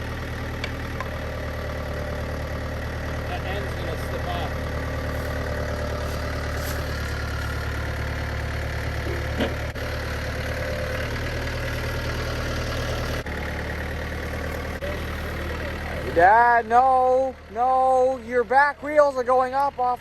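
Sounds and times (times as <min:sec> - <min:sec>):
machine engine idling: 0:00.0 - 0:20.0.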